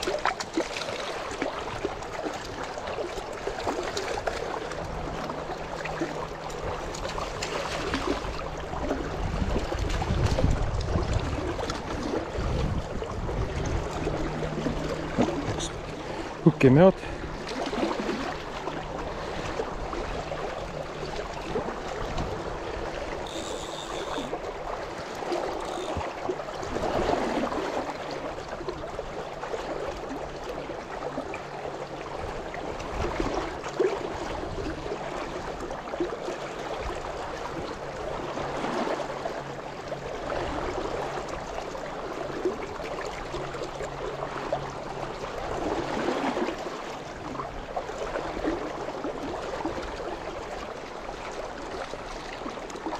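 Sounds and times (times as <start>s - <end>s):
river current gurgling: 0.0s - 52.9s.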